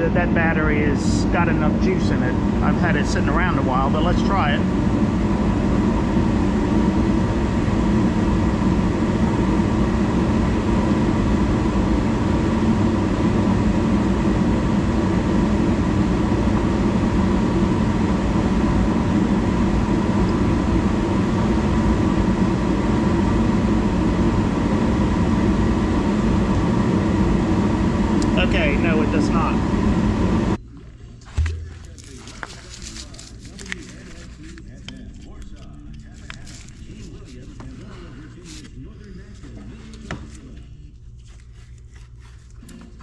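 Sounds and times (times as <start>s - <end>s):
mechanical drone with hum: 0.0s - 37.7s
faint steady whine: 0.0s - 43.0s.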